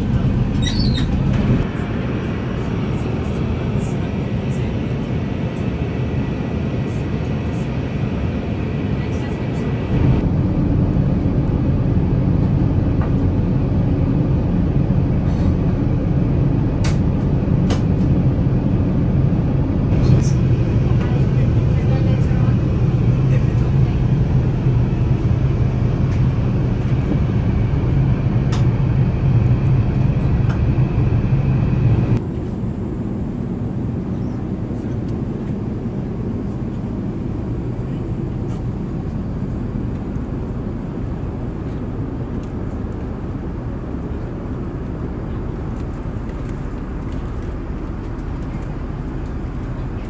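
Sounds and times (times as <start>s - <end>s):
airplane cabin drone: 0.0s - 50.0s.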